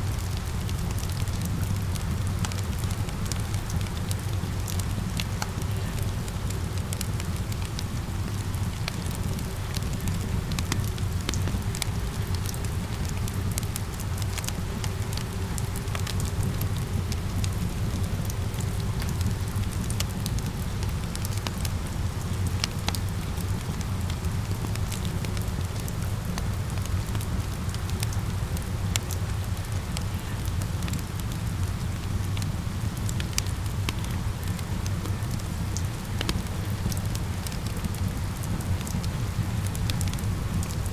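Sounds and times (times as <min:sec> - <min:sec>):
steady rain: 0:00.0 - 0:40.9
fire crackling and popping: 0:00.1 - 0:40.9.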